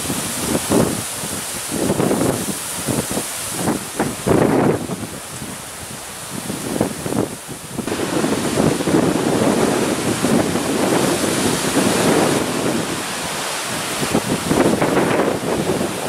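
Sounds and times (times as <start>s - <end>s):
gusty storm wind on microphone: 0.0s - 16.0s.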